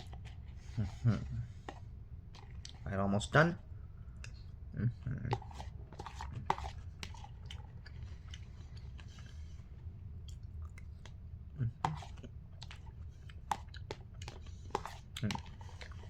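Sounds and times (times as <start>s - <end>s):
person chewing cereal: 0.0s - 2.9s, 4.1s - 16.0s.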